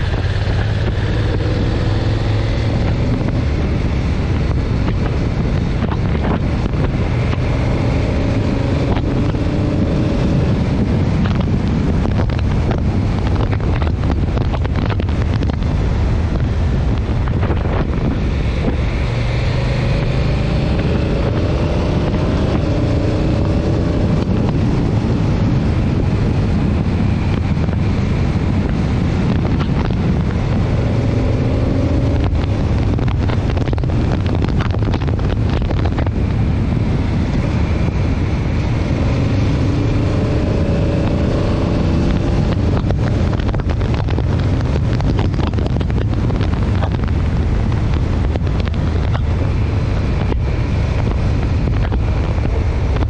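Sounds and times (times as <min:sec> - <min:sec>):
motorcycle engine revving: 0:00.0 - 0:53.0
wind rush on microphone: 0:00.0 - 0:53.0.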